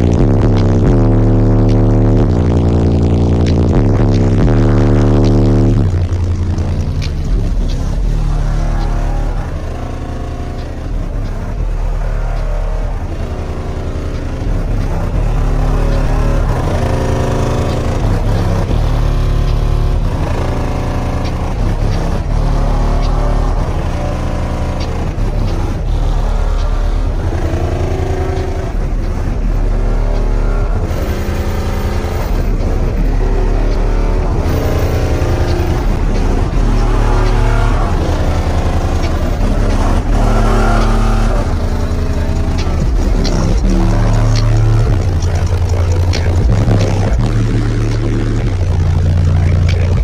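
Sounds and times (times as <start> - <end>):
bass-heavy music from car speakers: 0.0 - 50.0.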